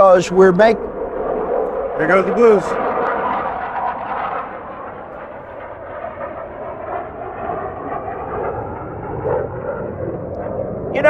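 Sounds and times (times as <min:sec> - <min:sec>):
jets flying past overhead: 0:00.0 - 0:11.0.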